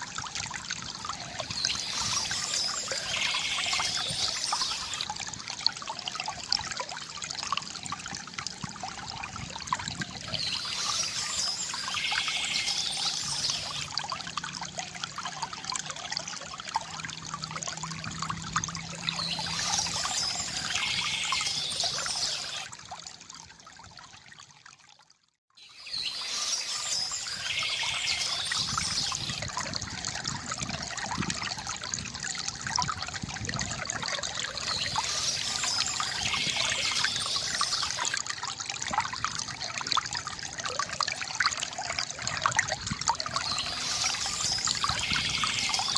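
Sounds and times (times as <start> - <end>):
water pouring from bamboo fountain: 0.0 - 45.9.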